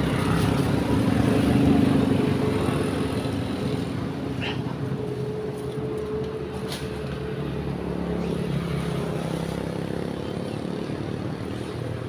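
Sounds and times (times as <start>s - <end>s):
motorcycles passing: 0.0s - 12.0s.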